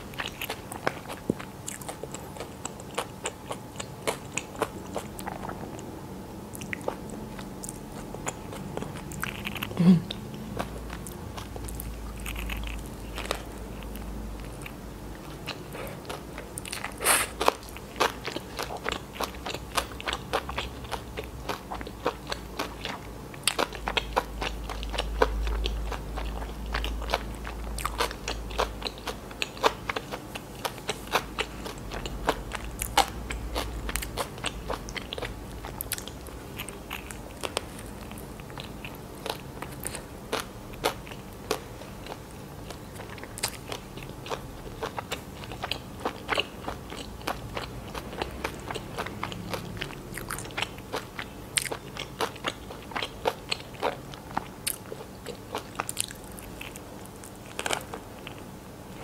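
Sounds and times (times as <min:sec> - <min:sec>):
close chewing with mouth clicks: 0:00.0 - 0:59.0.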